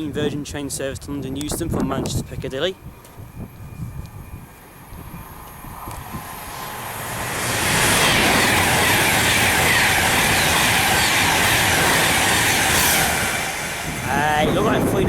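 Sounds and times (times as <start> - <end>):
electric train passing at speed: 0.0 - 15.0.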